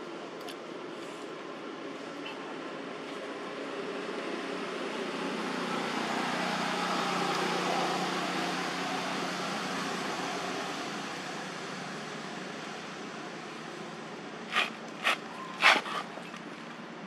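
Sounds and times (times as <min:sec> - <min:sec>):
passing motor vehicle engine hum: 0:01.6 - 0:17.0.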